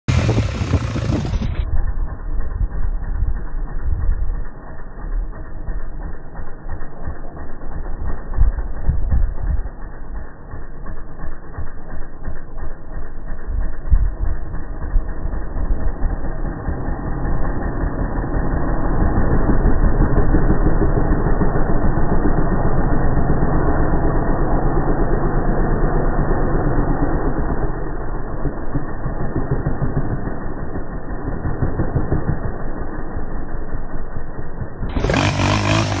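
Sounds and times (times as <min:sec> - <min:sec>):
atv engine running: 0:00.1 - 0:36.0.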